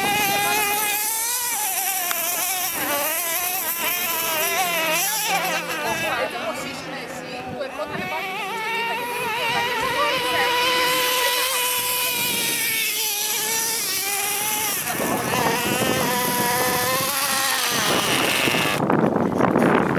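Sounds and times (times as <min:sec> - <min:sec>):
small nitro engine whining: 0:00.0 - 0:19.9.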